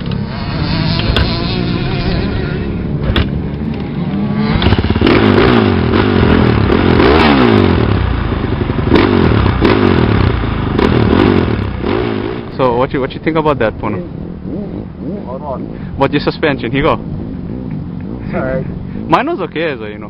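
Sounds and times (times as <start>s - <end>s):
dirt bike engine revving: 0.0s - 12.8s, 14.0s - 19.6s.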